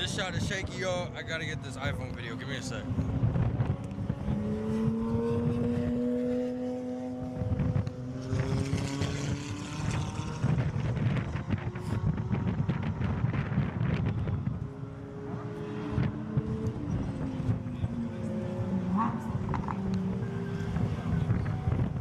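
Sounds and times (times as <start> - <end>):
wind buffeting on microphone: 0.0 - 6.0, 7.2 - 19.7, 20.6 - 22.0
supercar engine running hard: 0.0 - 22.0.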